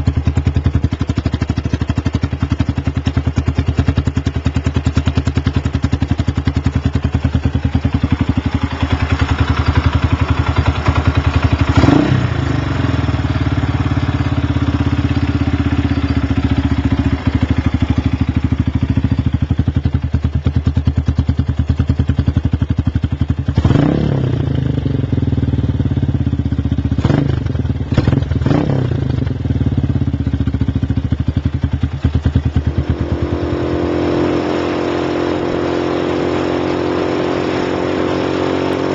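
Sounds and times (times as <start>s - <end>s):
motorcycle engine idling: 0.0s - 36.3s.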